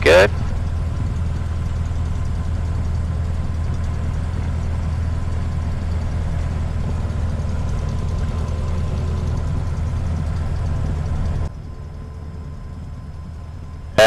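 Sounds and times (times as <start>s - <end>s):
light aircraft engine droning: 0.0s - 14.0s.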